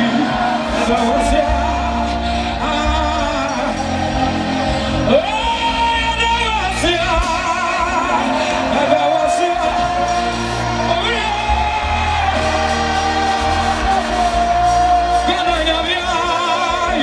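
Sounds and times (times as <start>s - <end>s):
crowd shouting: 0.0s - 2.7s, 3.6s - 17.0s
live band playing: 0.0s - 17.0s.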